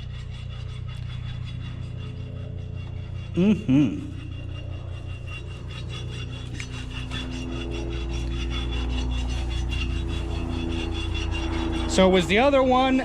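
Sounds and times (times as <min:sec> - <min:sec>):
grain auger drone: 0:00.0 - 0:13.0
raspy scraping grind: 0:00.0 - 0:13.0.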